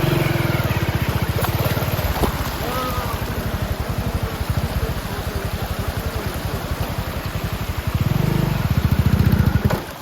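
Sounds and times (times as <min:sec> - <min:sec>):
motorcycle engine chugging: 0:00.0 - 0:10.0.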